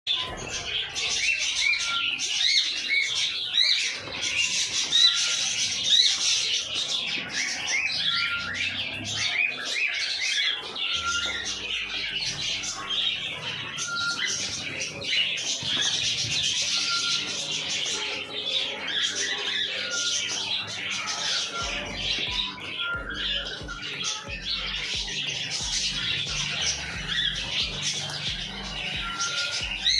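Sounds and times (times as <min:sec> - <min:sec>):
birds chirping and squawking: 0:00.1 - 0:29.9
sustained music: 0:05.4 - 0:29.9.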